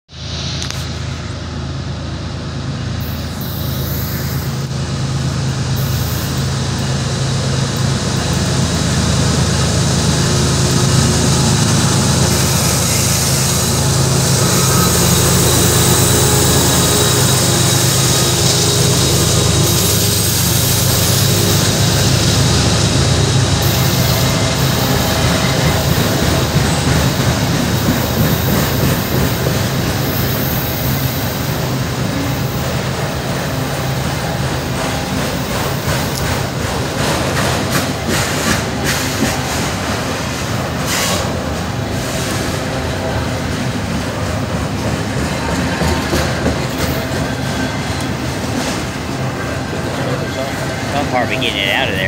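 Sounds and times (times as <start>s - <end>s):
diesel locomotive engine humming: 0.1s - 52.0s
train wheels rumbling on rails: 0.1s - 52.0s.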